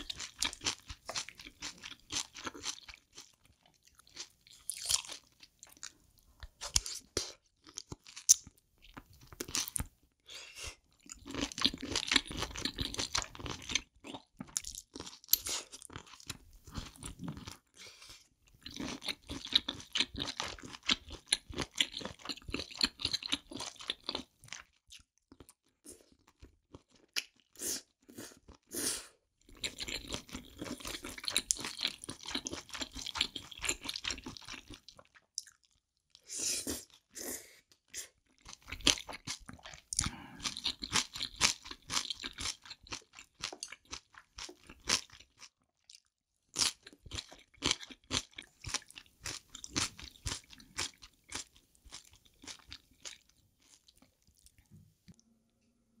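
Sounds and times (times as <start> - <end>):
wet chewing and crunching: 0.0 - 10.0, 10.8 - 28.7, 29.5 - 54.7.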